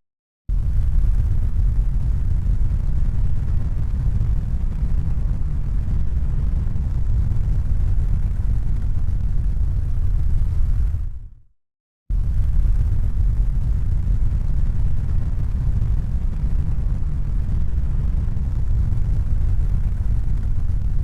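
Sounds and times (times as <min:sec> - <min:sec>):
steady low rumble: 0:00.5 - 0:11.4, 0:12.1 - 0:21.0.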